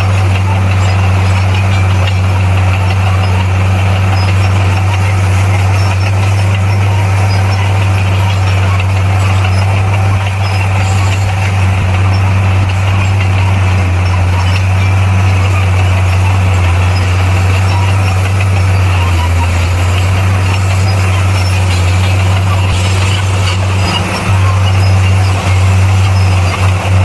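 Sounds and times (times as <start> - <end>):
bulldozer diesel engine hum: 0.0 - 27.0.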